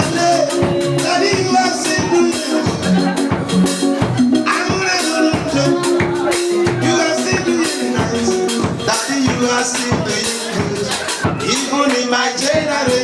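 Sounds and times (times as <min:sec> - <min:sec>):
singing: 0:00.0 - 0:03.2, 0:04.4 - 0:13.0
sustained keyboard or bass notes: 0:00.0 - 0:11.8
steady drum beat: 0:00.0 - 0:13.0.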